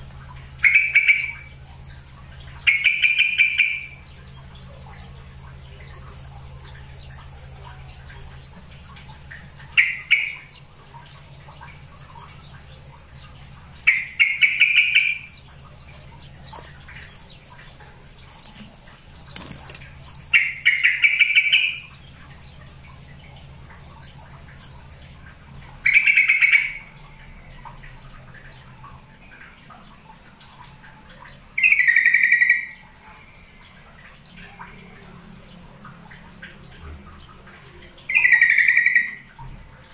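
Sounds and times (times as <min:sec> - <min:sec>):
bulbul song: 0:00.0 - 0:39.4.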